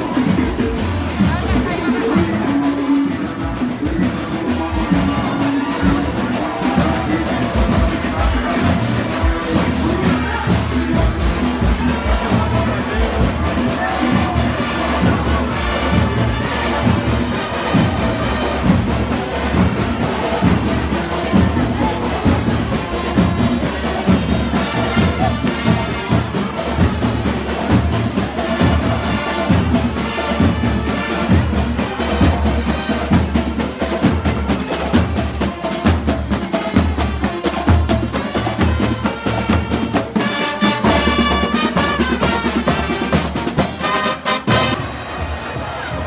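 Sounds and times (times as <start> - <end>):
bass drum beat: 0.0 - 44.8
brass band playing: 0.0 - 46.0
trumpet and horn lines: 0.0 - 46.0.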